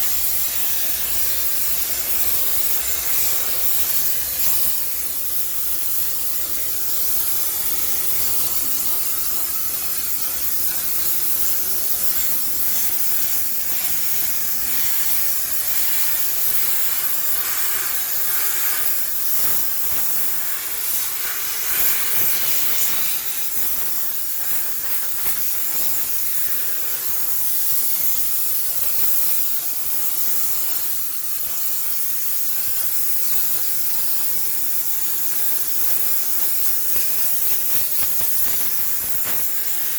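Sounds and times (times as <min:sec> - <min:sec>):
steam jet hissing: 0:00.0 - 0:39.9.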